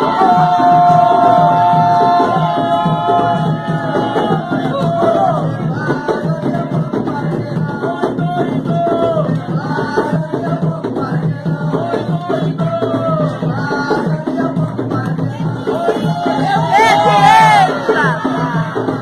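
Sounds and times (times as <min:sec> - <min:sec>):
drums beating: 0:00.0 - 0:19.0
people singing: 0:00.0 - 0:19.0.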